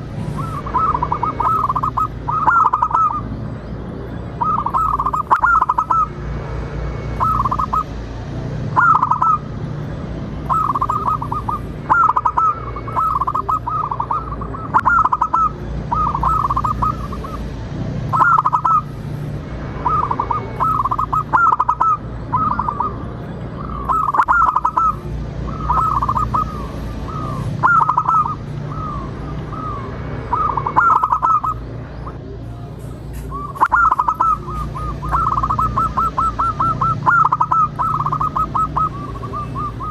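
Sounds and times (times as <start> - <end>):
dove cooing: 0.0 - 3.3, 4.4 - 6.2, 7.2 - 7.9, 8.8 - 9.5, 10.4 - 17.5, 18.1 - 18.9, 19.8 - 32.4, 33.1 - 39.9.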